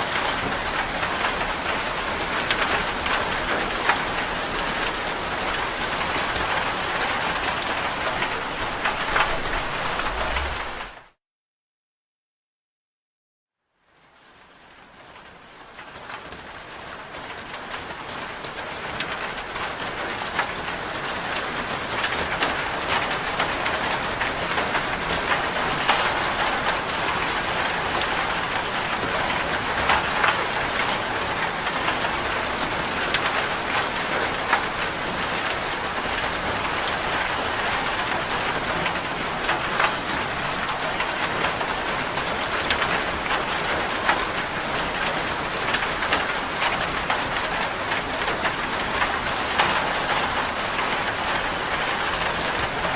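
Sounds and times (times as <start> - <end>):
rain taps: 0.0 - 10.9, 18.4 - 52.9.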